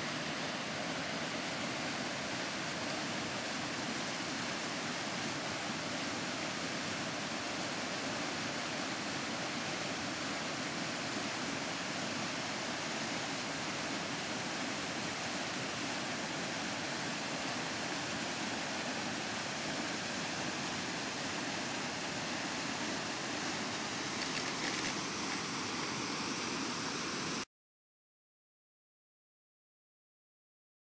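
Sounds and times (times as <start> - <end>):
river rushing over rocks: 0.0 - 27.4.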